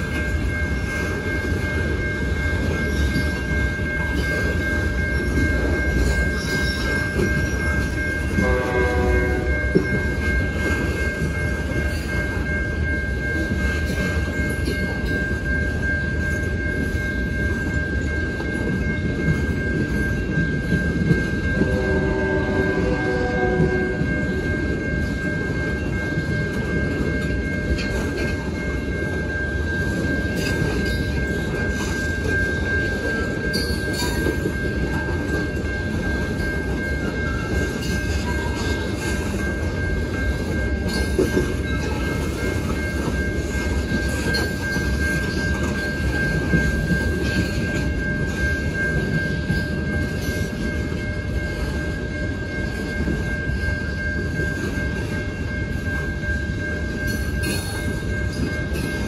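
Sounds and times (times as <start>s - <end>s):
crossing warning bell: 0.0s - 59.0s
train wheels rumbling on rails: 0.0s - 59.0s.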